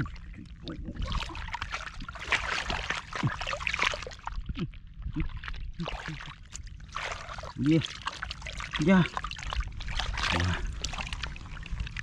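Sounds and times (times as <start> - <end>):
shallow water sloshing and splashing: 0.0 - 12.0.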